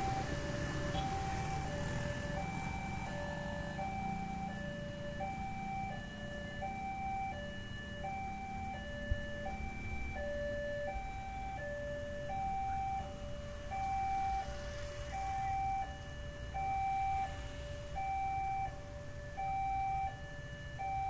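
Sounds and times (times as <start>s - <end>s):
motorbike engines idling: 0.0s - 21.0s
two-tone crossing alarm: 0.0s - 21.0s.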